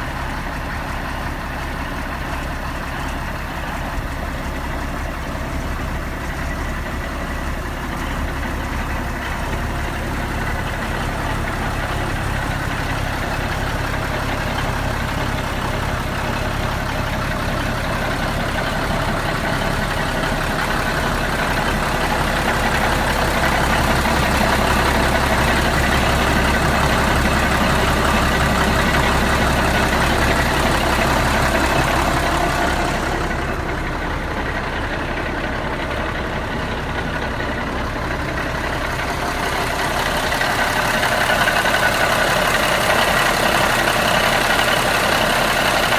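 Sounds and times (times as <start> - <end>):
tractor engine idling: 0.0 - 45.9.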